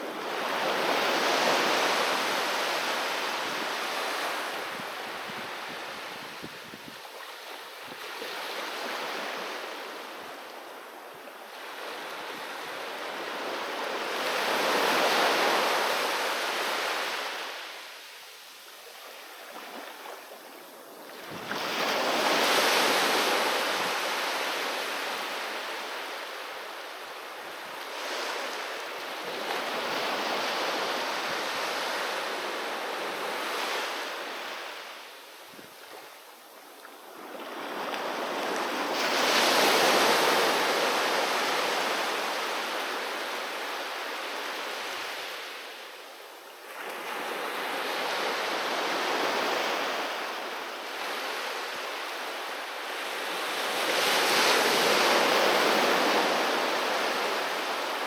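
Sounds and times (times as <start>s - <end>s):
sea waves breaking on beach: 0.0s - 36.2s, 36.9s - 46.0s, 46.6s - 58.0s.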